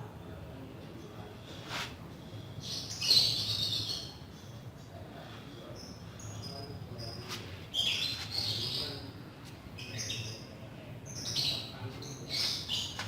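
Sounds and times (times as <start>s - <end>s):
birds chirping: 2.2s - 13.0s.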